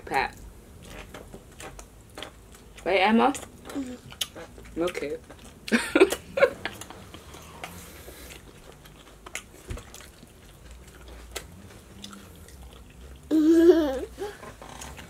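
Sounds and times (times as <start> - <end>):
chewing and mouth noises: 0.8 - 13.3, 14.2 - 15.0.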